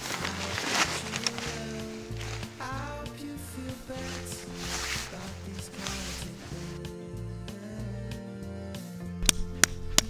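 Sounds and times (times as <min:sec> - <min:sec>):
background music with bass notes: 0:00.0 - 0:10.0.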